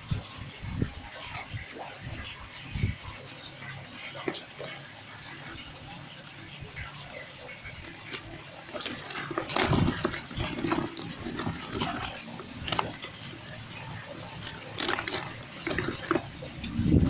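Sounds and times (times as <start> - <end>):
fish flapping and slapping wetly: 0.0 - 17.0
hand sorting through fish: 0.2 - 17.0.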